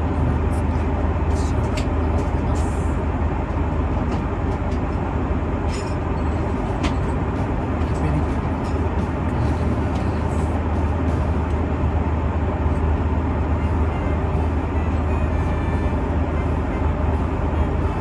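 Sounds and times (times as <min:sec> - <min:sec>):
vehicle interior rumble: 0:00.0 - 0:18.0.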